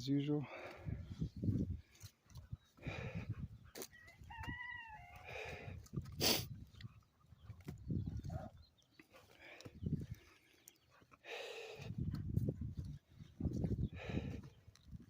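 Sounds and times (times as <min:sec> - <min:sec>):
footsteps on trail: 0:00.5 - 0:15.0.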